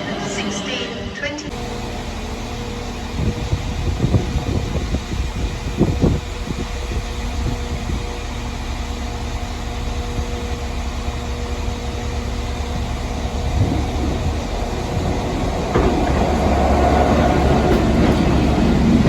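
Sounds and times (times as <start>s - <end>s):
train mechanical hum: 0.0s - 19.0s.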